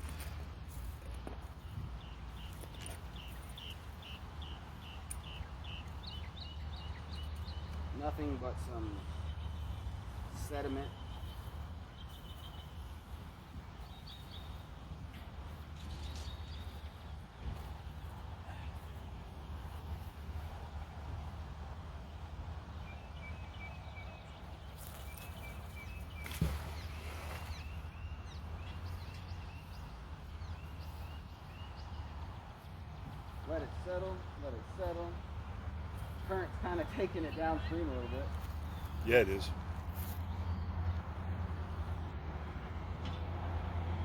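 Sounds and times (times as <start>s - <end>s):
birds chirping: 0.1s - 20.6s, 22.1s - 42.1s.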